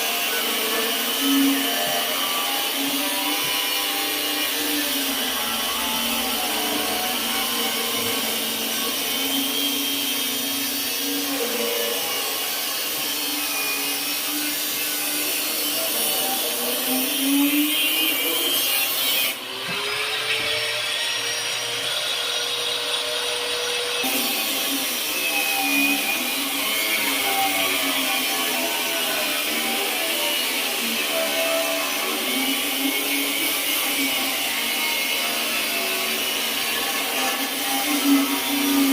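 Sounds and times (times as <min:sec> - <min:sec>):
angle grinder motor whine: 0:00.0 - 0:38.9.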